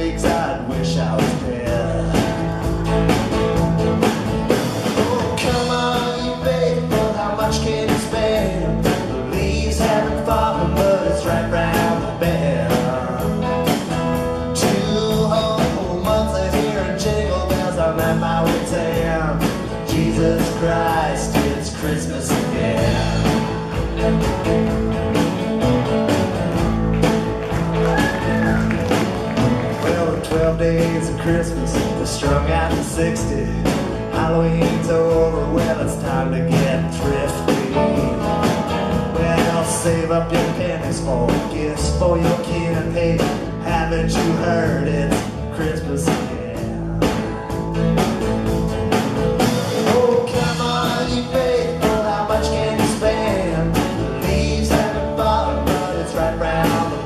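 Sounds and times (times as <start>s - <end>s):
person singing: 0.0s - 2.8s, 4.9s - 13.8s, 14.4s - 23.6s, 27.8s - 47.2s, 49.8s - 57.0s
drum kit beat: 0.0s - 57.0s
electric guitar: 0.0s - 57.0s
strummed acoustic guitars: 0.0s - 57.0s.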